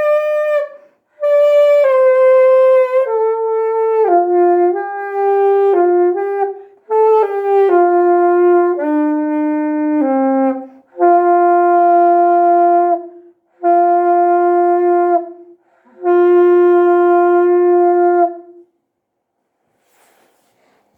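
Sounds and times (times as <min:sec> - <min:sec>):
wind instrument melody: 0:00.0 - 0:18.7.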